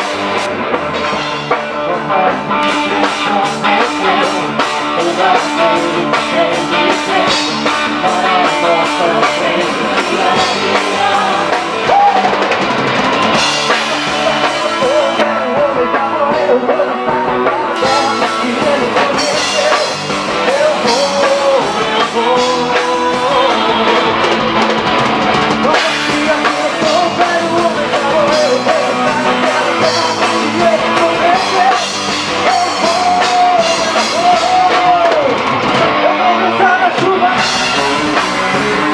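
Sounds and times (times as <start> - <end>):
drum kit beat: 0.0 - 38.9
guitar: 0.0 - 38.9
live band playing: 0.0 - 38.9
person singing: 1.6 - 12.6, 13.6 - 24.9, 25.5 - 38.9.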